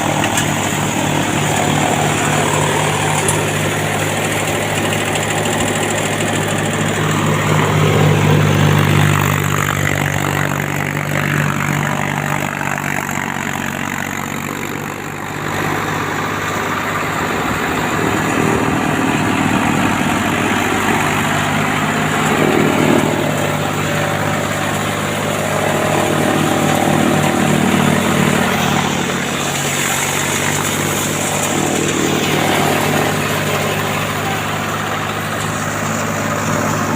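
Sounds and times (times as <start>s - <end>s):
chaff cutter machine droning: 0.0s - 36.9s.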